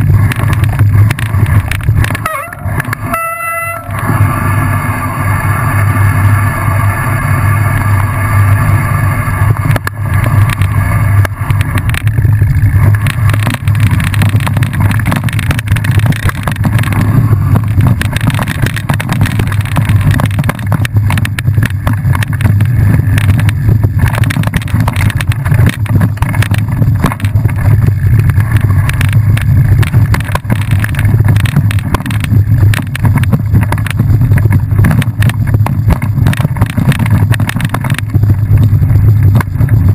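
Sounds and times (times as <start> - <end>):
bike rattles and knocks: 0.0 - 4.3, 8.5 - 39.9
low rumble: 0.0 - 39.9.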